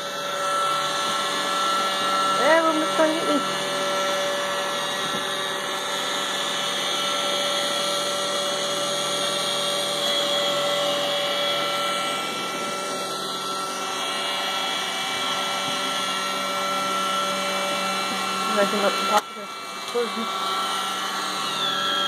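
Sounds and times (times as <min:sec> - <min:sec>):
robot vacuum running: 0:00.0 - 0:22.0.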